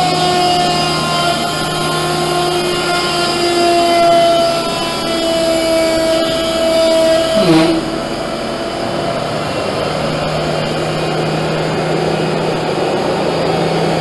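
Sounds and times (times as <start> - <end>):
low machine hum: 0.0 - 14.0
machine whine: 0.0 - 14.0
rushing mechanical noise: 0.0 - 14.0.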